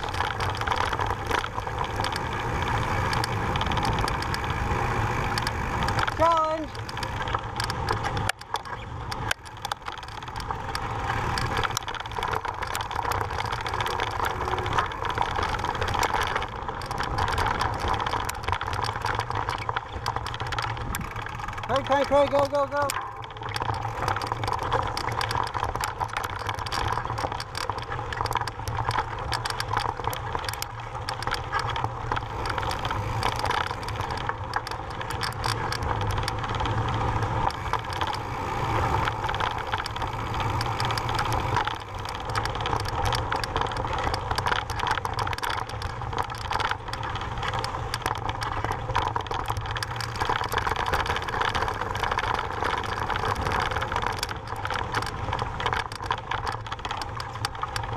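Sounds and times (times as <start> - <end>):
bike rattling: 0.0 - 57.9
tyres crunching over stones: 0.0 - 57.9.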